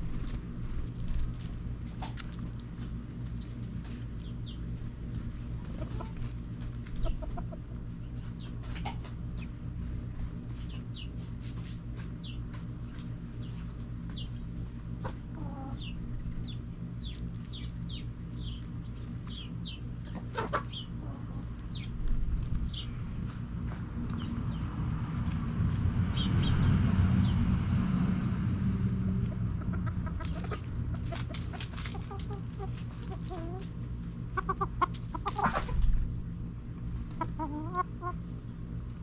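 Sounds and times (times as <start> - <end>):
chickens clucking: 0.0 - 39.0
steady low hum: 0.0 - 39.0.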